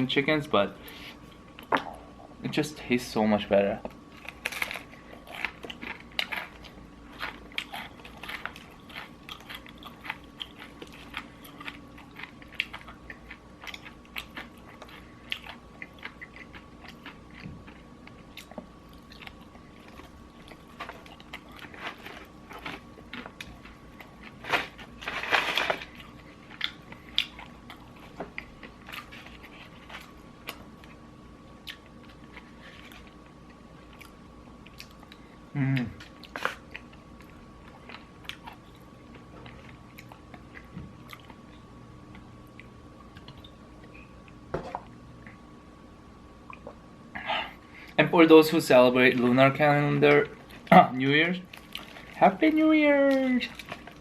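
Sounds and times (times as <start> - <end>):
faint steady hum: 0.0 - 54.0
crunching and chewing fried chicken: 3.7 - 44.4, 47.5 - 54.0.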